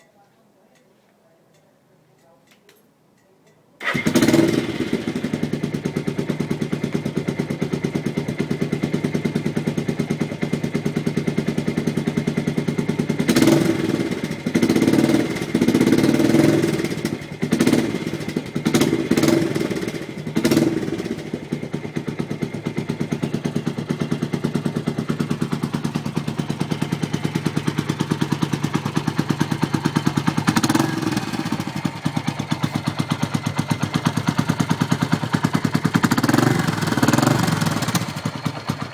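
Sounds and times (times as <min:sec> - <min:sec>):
motorcycle engine idling and revving: 0:03.8 - 0:38.9.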